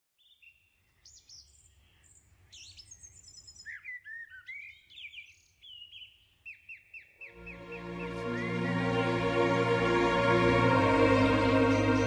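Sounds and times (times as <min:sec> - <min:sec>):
songbirds singing and chirping: 0:00.2 - 0:10.2.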